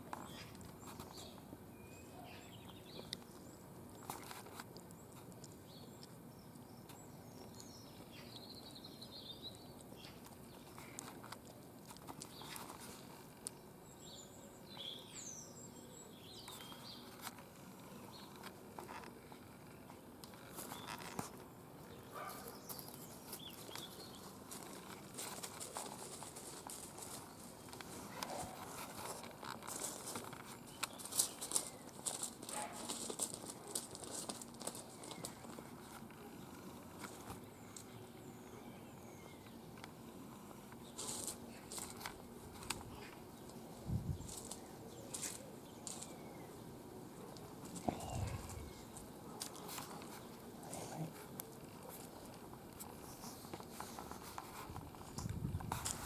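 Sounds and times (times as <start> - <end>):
background hiss: 0.0 - 56.0.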